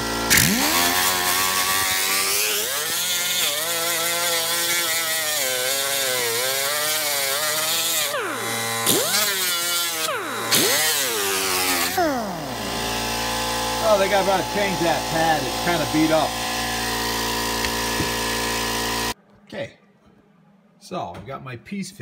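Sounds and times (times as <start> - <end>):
pneumatic grinder sanding plastic: 0.0 - 19.2.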